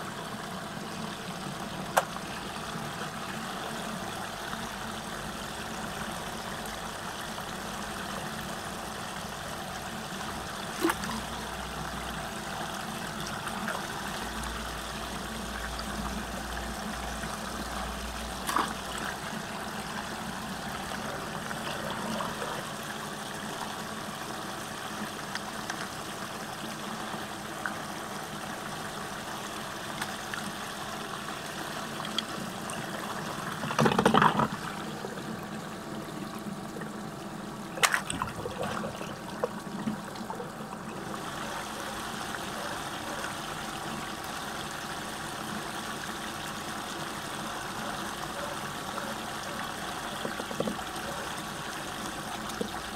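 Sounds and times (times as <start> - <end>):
water rushing down a drain: 0.4 - 52.9.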